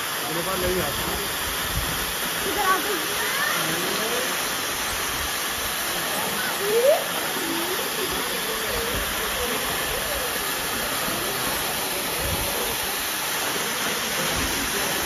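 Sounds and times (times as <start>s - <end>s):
waterfall rushing: 0.0s - 15.0s
faint voices: 0.8s - 15.0s.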